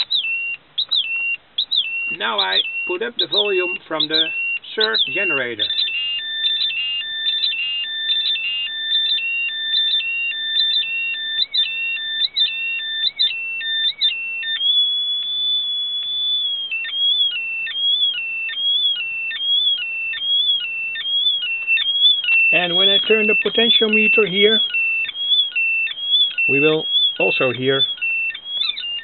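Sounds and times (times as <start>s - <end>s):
electronic siren beeps warbling: 0.0s - 29.0s.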